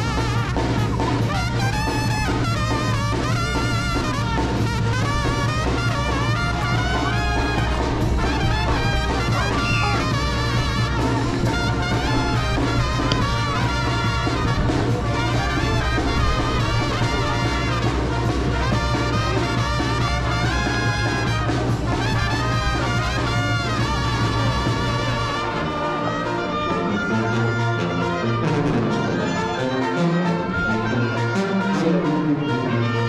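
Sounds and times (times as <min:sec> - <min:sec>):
brass band playing: 0:00.0 - 0:33.0.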